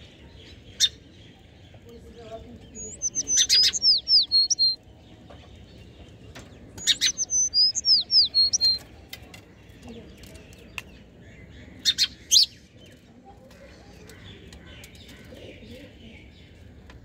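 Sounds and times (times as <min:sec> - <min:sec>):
sparrows chirping: 0:00.0 - 0:17.0.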